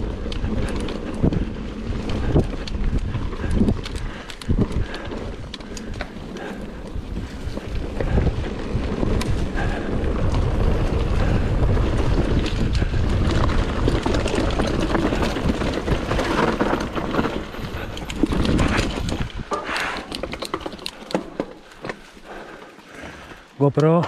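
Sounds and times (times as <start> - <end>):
moving vehicle running noise: 0.0 - 21.2
wind buffeting microphone: 0.0 - 21.7.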